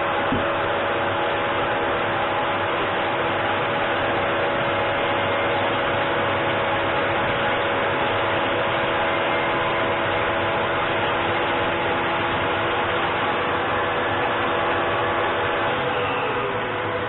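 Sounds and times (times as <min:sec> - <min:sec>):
electric saw motor humming: 0:00.0 - 0:17.0.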